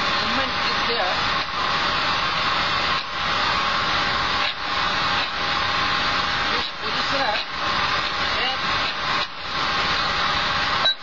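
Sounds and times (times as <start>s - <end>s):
air hissing from valve: 0.0s - 11.0s.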